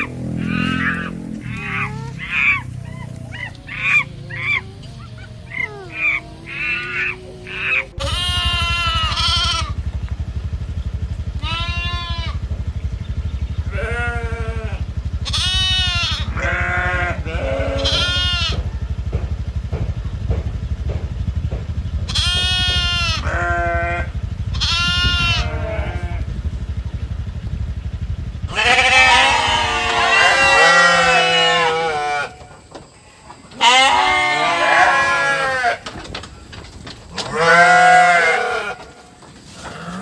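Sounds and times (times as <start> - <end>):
goats bleating: 0.0 - 26.8, 28.5 - 32.7, 33.4 - 40.0
steady low hum: 0.0 - 40.0.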